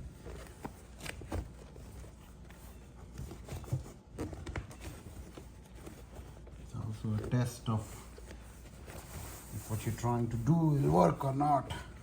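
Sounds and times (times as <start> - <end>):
knocks and rustles of handling: 0.0 - 12.0.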